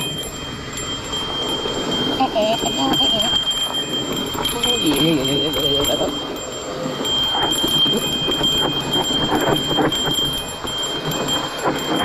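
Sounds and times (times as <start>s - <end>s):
bike rattling over bumps: 0.0s - 12.0s
thin high-pitched tone: 0.0s - 12.0s.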